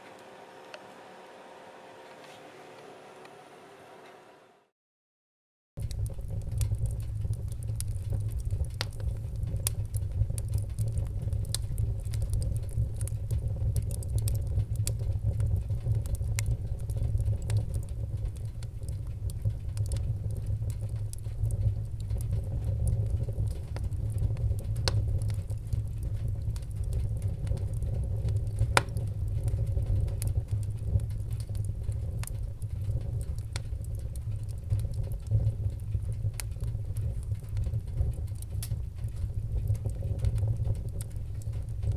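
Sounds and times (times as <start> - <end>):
wood fire crackling and popping: 5.8 - 41.9.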